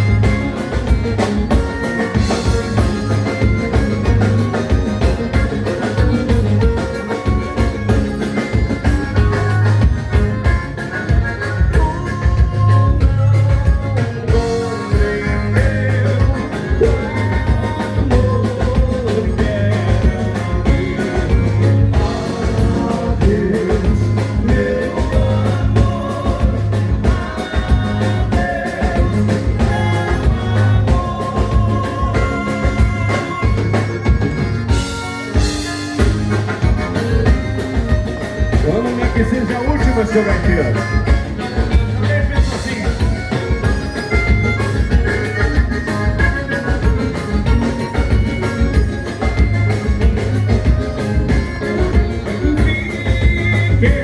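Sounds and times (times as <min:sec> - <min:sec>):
drums and bass beat: 0:00.0 - 0:54.0
live dance band playing: 0:00.0 - 0:54.0.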